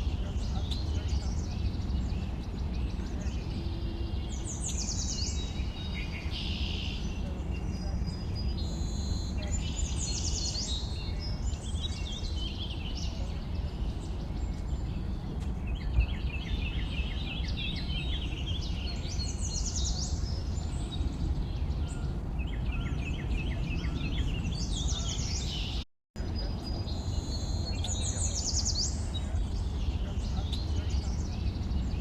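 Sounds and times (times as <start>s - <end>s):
birds chirping and trilling: 0.0s - 32.0s.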